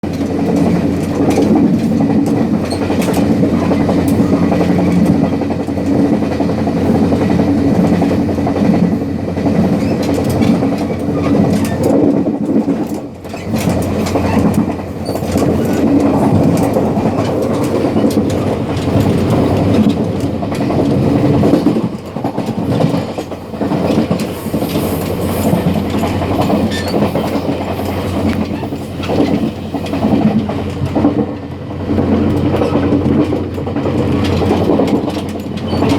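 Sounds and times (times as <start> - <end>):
train running rumble: 0.0 - 35.9
wheel-on-rail clatter: 0.0 - 35.9.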